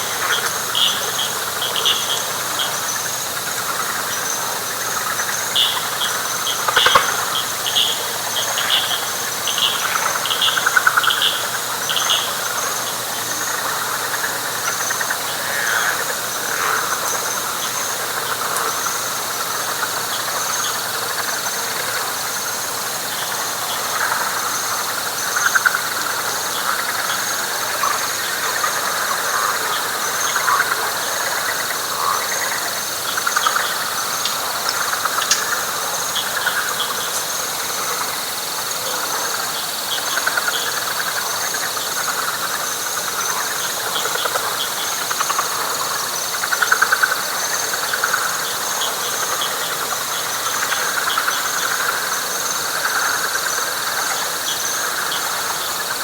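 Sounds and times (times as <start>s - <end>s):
frog chorus trilling: 0.0s - 56.0s.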